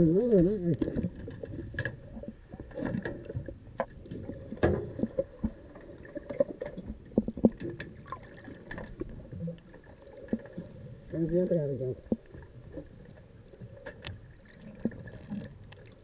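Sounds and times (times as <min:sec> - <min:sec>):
underwater rushing water: 0:00.0 - 0:16.0
underwater knocks and clicks: 0:00.4 - 0:10.9, 0:12.0 - 0:16.0.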